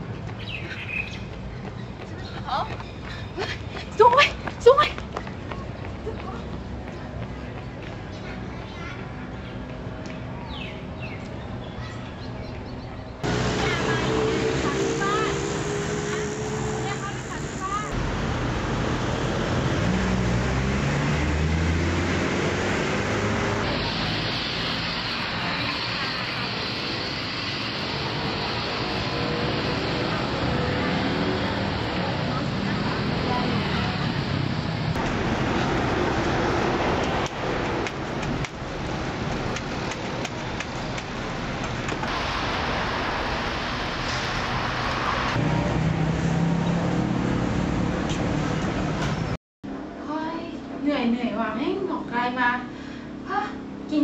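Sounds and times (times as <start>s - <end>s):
road traffic: 0.0s - 54.0s.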